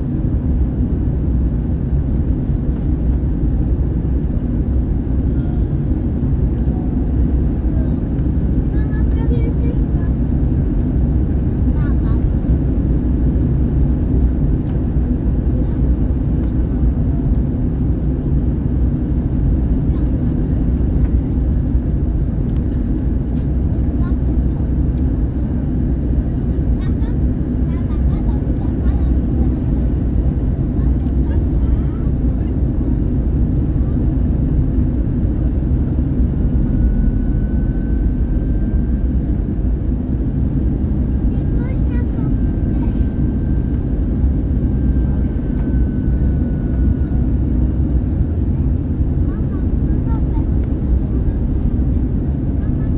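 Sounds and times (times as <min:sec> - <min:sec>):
airplane cabin rumble in flight: 0:00.0 - 0:52.9.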